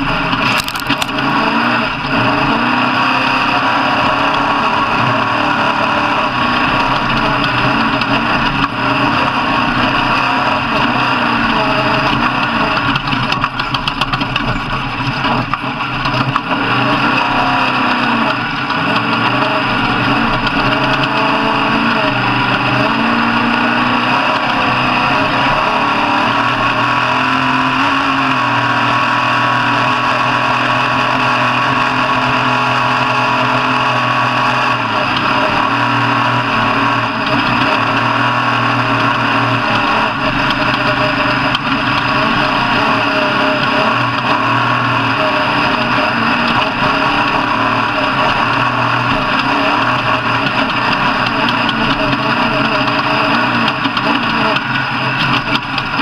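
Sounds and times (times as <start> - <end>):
racing engines revving: 0.0 - 56.0.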